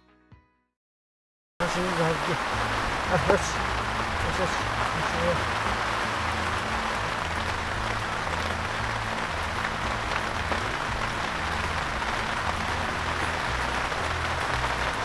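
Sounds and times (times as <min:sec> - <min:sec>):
heavy rain pouring: 0:01.6 - 0:15.0.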